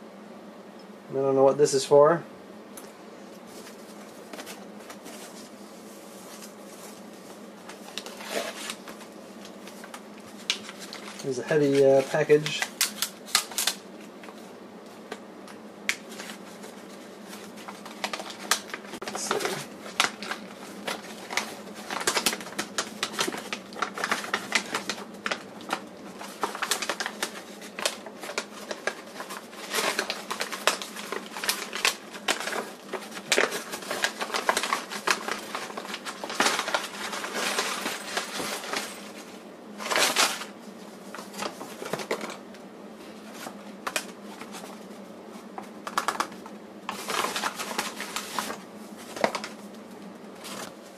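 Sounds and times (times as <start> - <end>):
paper crinkling and crackling: 3.5 - 42.6, 43.2 - 50.9.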